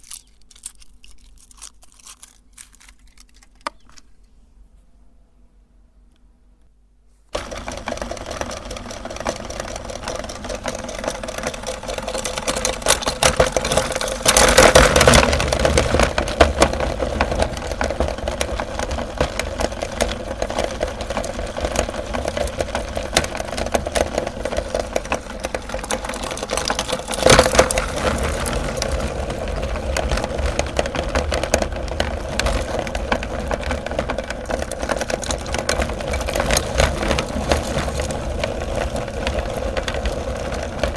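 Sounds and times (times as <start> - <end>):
electric meat grinder crunching: 7.3 - 40.9.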